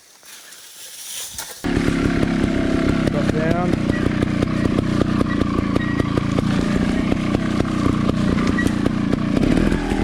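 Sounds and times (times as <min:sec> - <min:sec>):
dirt bike engine at low revs: 0:01.6 - 0:10.0.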